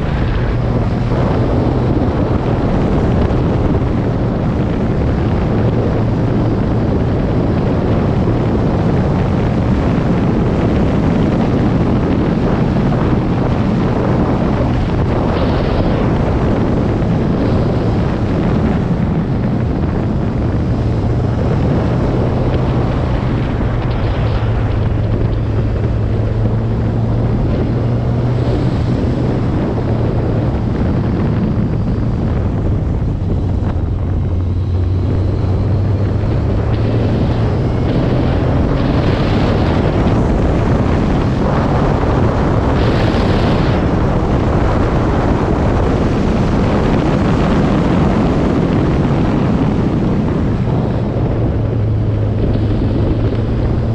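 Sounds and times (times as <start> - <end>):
vehicle engine droning: 0.0 - 53.9
wind buffeting microphone: 0.0 - 53.9.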